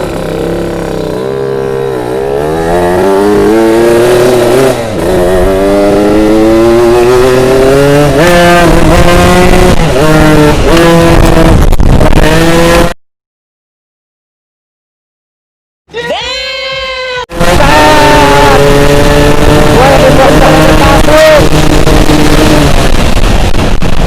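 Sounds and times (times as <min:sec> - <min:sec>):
two-stroke motorcycle accelerating: 0:00.0 - 0:13.0, 0:17.3 - 0:24.0.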